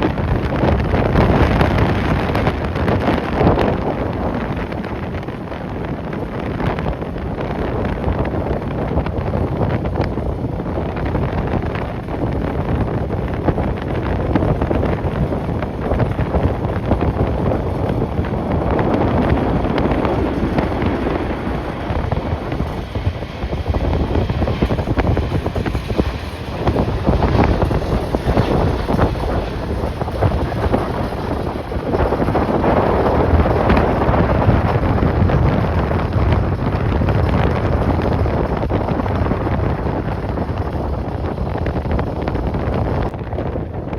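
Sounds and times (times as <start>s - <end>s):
gusty wind buffeting microphone: 0.0s - 43.9s.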